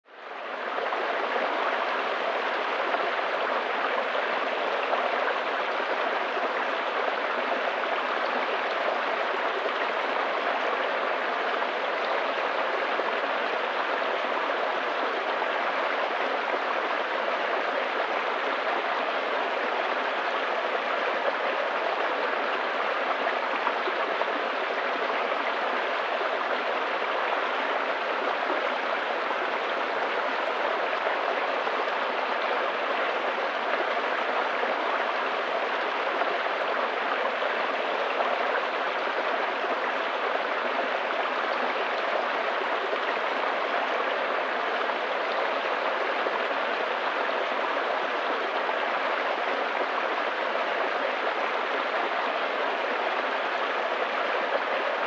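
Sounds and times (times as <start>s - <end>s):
brook water rushing over stones: 0.1s - 55.0s.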